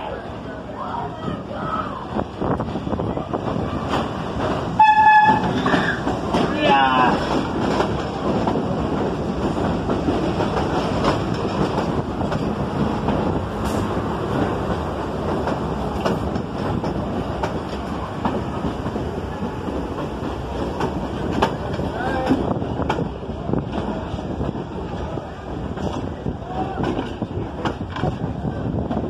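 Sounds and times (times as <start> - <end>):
subway train rumbling: 0.0 - 29.0
wheels clicking over rail joints: 3.4 - 29.0.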